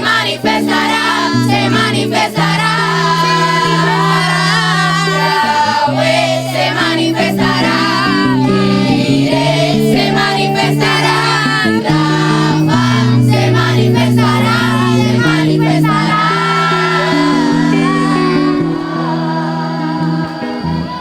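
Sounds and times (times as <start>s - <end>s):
group singing worship song: 0.0s - 21.0s
low held accompaniment notes: 0.0s - 21.0s.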